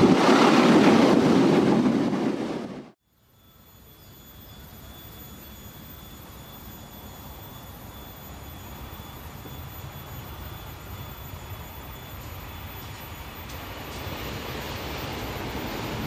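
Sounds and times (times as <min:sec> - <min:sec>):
faint high whine: 0:03.0 - 0:16.0.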